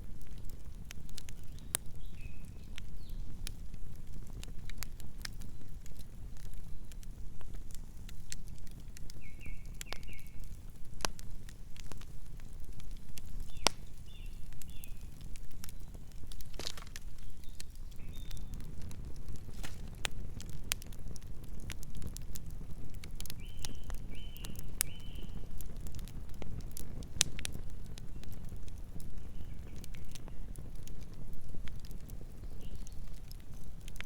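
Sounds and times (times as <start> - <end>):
burning wood crackling and popping: 0.0 - 34.0
campfire flames rumbling: 0.0 - 34.0.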